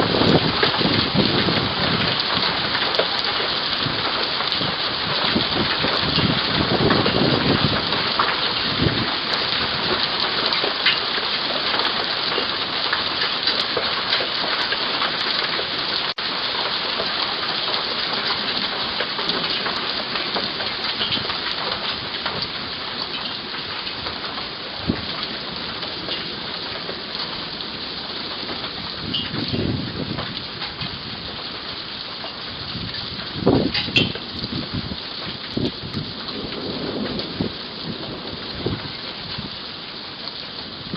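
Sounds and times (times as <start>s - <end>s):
hailstones hitting: 0.0s - 40.9s
heavy rain pouring: 0.0s - 40.9s.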